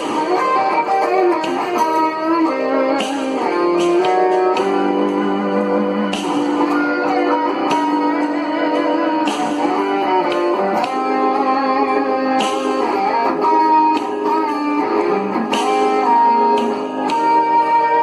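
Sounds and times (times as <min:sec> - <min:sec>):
backing track with drums: 0:00.0 - 0:18.0
electric guitar blues lead: 0:00.0 - 0:18.0.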